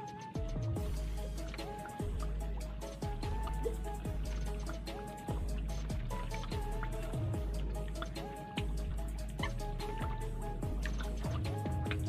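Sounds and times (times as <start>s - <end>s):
deep drum hits: 0.4s - 7.8s, 8.6s - 12.0s.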